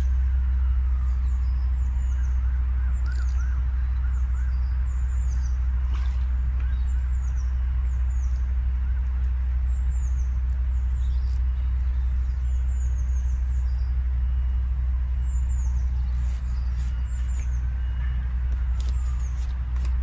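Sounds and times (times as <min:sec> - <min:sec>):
steady low rumble: 0:00.0 - 0:20.0
small bird calling: 0:01.0 - 0:20.0.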